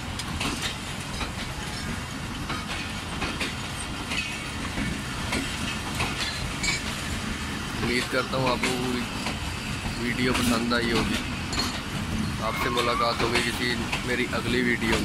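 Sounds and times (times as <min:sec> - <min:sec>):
train coaches rumbling past: 0:00.0 - 0:15.0
wheels clacking on track: 0:00.0 - 0:15.0.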